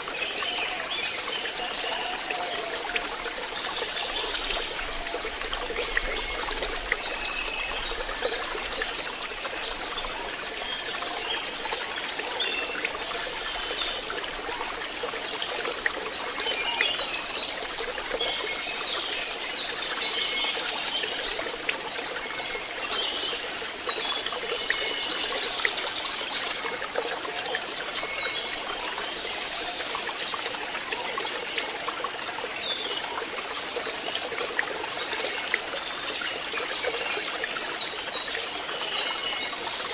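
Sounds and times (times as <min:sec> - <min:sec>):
water trickling into pond: 0:00.0 - 0:39.9.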